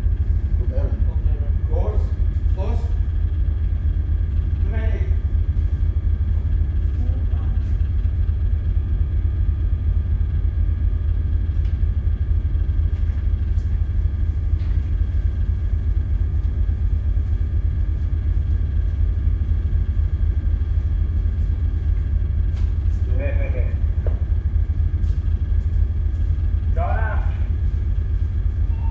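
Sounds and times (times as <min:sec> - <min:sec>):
faint steady hum: 0:00.0 - 0:28.9
ship machinery rumble: 0:00.0 - 0:28.9.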